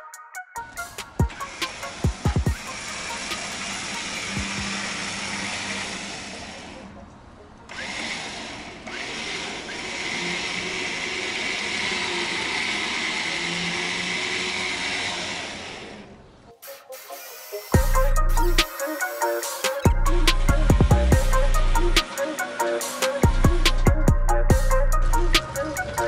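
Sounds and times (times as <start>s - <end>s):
tow truck winch running: 0.6s - 26.0s.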